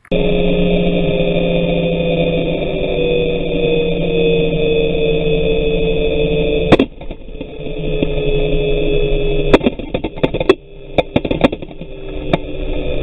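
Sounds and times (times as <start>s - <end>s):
electric motors humming: 0.0s - 13.0s.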